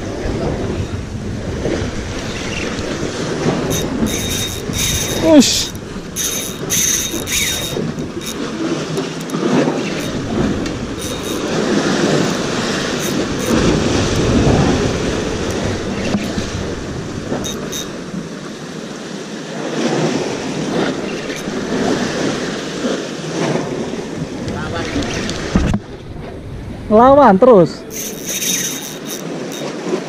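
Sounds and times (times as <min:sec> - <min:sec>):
wind on microphone: 0:00.0 - 0:18.6, 0:19.7 - 0:30.0
sea waves against breakwater: 0:00.0 - 0:30.0.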